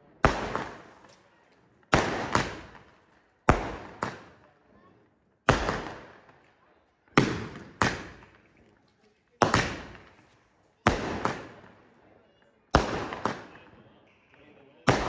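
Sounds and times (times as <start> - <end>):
firecrackers banging: 0.0 - 4.6, 5.4 - 15.0.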